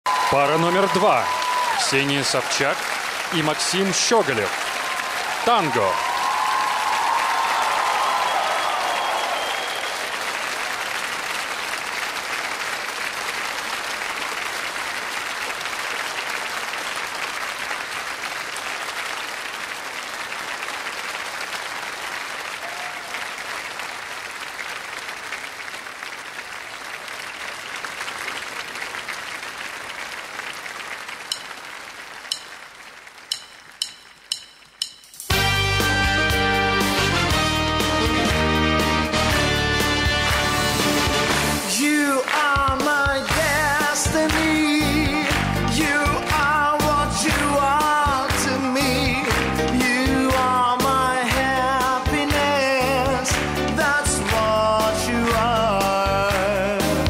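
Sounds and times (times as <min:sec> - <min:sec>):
audience applauding: 0:00.0 - 0:33.8, 0:35.8 - 0:57.0.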